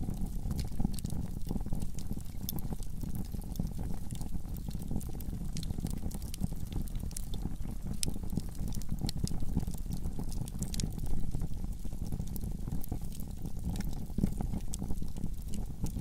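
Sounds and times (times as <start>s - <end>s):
fire low rumble: 0.0s - 16.0s
wood fire crackling and popping: 0.0s - 16.0s.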